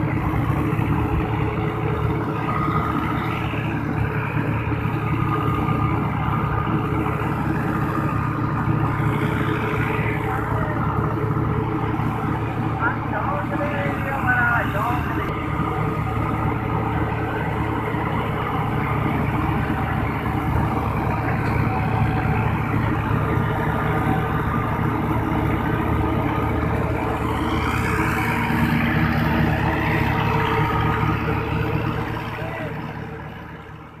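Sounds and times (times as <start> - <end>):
straw chopper drone: 0.0 - 34.0
tractor engine under load: 0.0 - 34.0.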